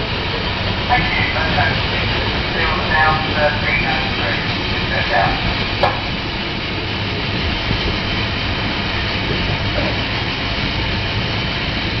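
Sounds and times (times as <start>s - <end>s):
locomotive running noise: 0.0s - 12.0s.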